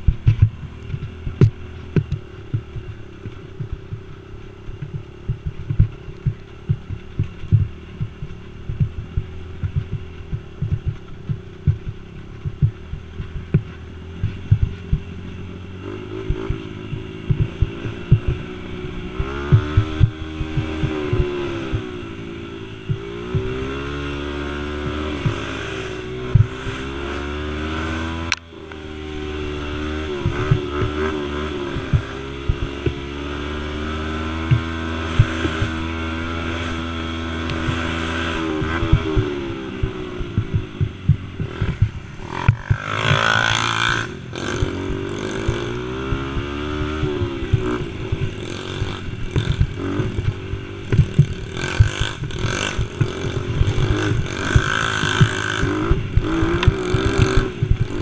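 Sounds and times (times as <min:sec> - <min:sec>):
knocks and rattles over bumps: 0:00.0 - 0:28.5, 0:29.4 - 0:58.0
quad engine revving: 0:00.0 - 0:58.0.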